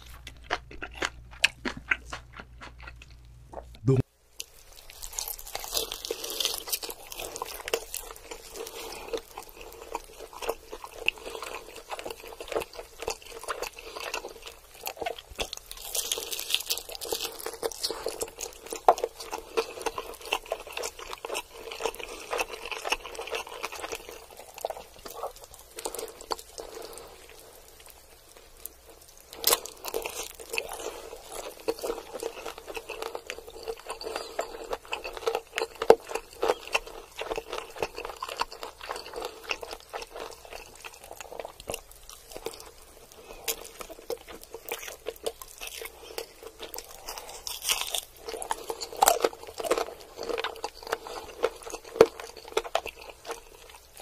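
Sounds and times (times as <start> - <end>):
fried chicken crunching and chewing: 0.0 - 54.0.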